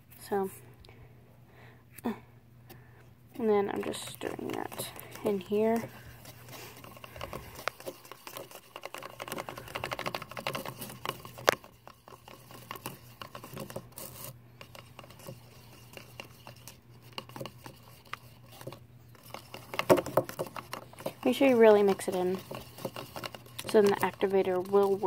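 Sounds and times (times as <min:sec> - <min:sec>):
stirrer scraping plastic bowl: 0:03.3 - 0:25.0.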